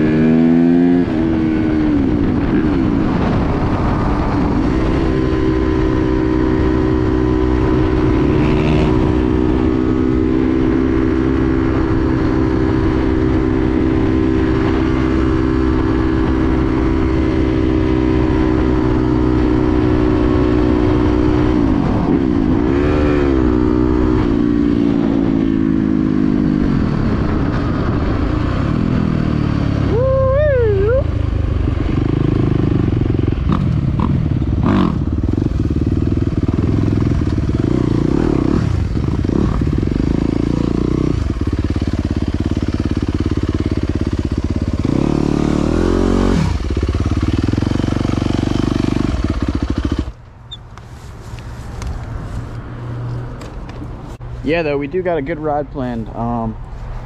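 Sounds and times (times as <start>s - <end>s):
dirt bike engine: 0.0s - 56.6s.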